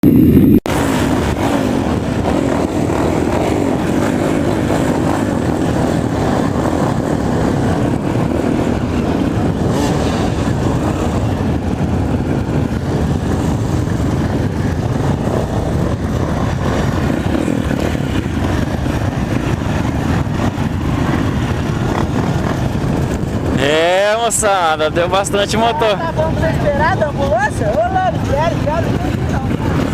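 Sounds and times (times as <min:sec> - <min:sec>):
motorcycle engines running: 0:00.7 - 0:29.9.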